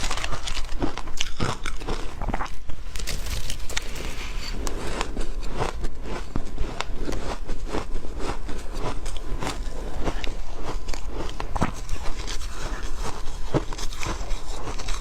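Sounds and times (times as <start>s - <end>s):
chewing and crunching ice: 0.0s - 15.0s.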